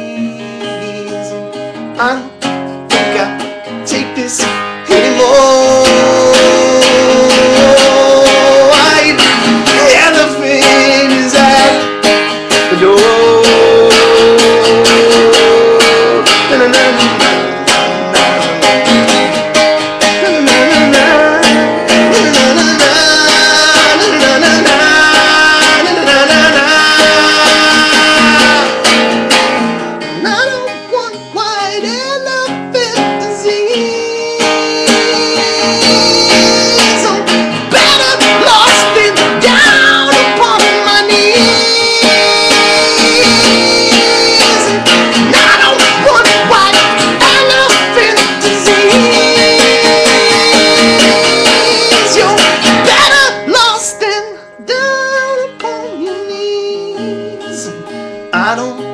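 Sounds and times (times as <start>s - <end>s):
person singing wordless melody: 0.0s - 2.4s, 3.0s - 29.3s, 30.0s - 58.9s
acoustic guitar strumming: 0.0s - 58.9s.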